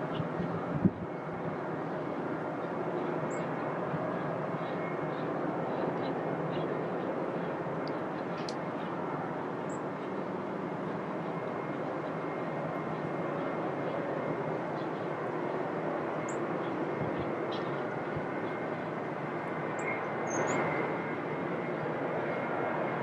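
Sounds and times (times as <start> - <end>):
faint high whine: 0.0 - 23.0
jet engines running: 0.0 - 23.0.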